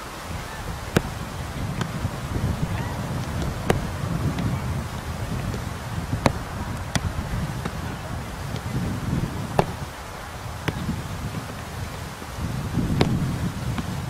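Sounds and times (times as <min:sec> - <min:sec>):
wind rumbling on microphone: 0:00.0 - 0:14.0
football being kicked: 0:00.9 - 0:09.9, 0:10.5 - 0:11.8, 0:12.7 - 0:14.0.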